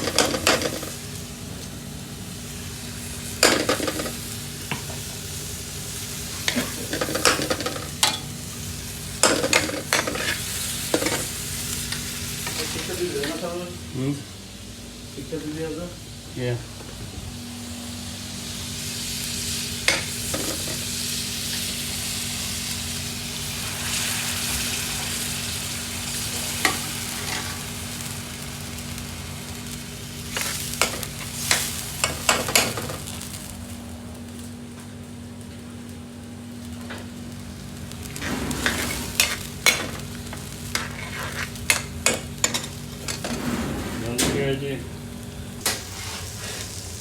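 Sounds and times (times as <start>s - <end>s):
food sizzling in a pan: 0.0s - 43.5s, 44.6s - 47.0s.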